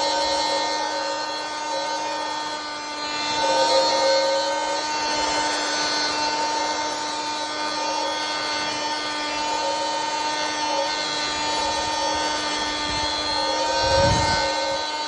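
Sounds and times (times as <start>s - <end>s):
handheld vacuum whining: 0.0s - 15.0s.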